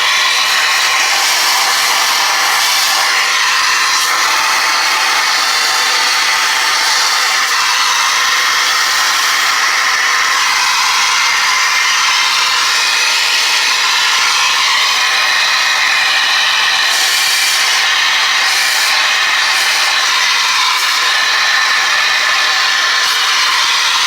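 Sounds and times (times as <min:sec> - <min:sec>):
shop vac sucking air: 0:00.0 - 0:24.0.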